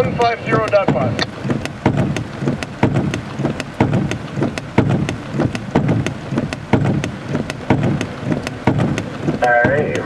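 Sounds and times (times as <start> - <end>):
heavy rain on a car: 0.0 - 10.0.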